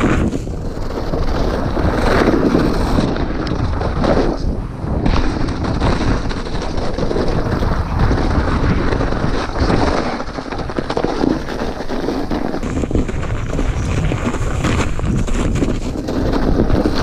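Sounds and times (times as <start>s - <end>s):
bike knocks and rattles: 0.0s - 17.0s
bike tyre noise: 0.0s - 17.0s
wind buffeting microphone: 0.0s - 17.0s.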